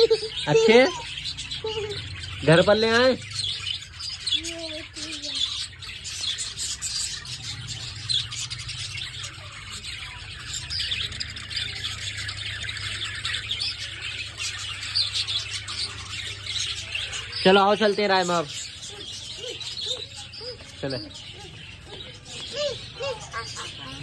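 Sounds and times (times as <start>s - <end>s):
budgerigars chirping: 0.0s - 24.0s.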